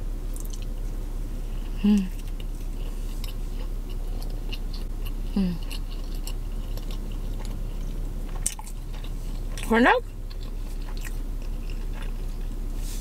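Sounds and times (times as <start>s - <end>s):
close chewing with mouth clicks: 0.3s - 0.9s, 1.5s - 12.7s.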